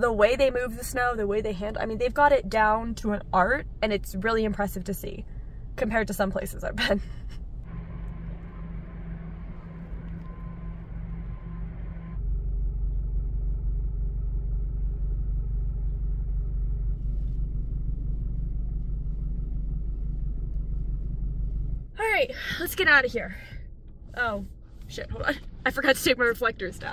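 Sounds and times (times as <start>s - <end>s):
faint hum: 0.0s - 26.9s
steady low rumble: 0.0s - 26.9s.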